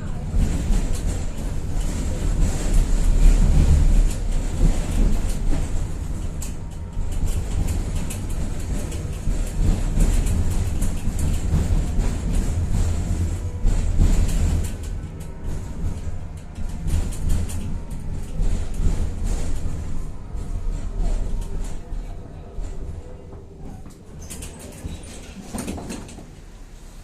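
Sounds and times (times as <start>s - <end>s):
wheels clicking on rails: 0.0s - 26.6s
tram running gear rumble: 0.0s - 27.0s.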